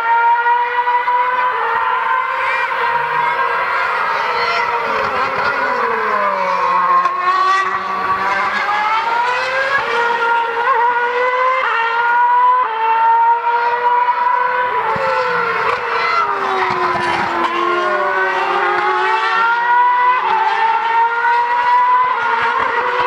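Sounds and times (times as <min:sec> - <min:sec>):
racing car engines at high revs: 0:00.0 - 0:23.0.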